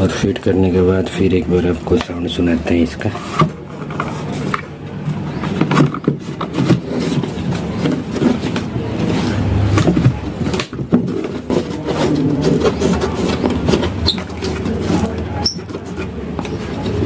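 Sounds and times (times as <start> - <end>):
parts clattering and scraping: 0.0 - 17.0.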